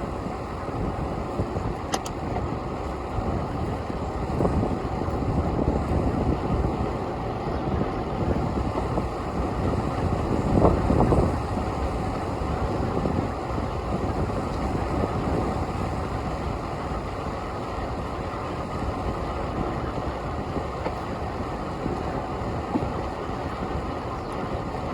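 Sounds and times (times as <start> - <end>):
street traffic rumbling: 0.0 - 24.9
wind buffeting microphone: 0.0 - 24.9.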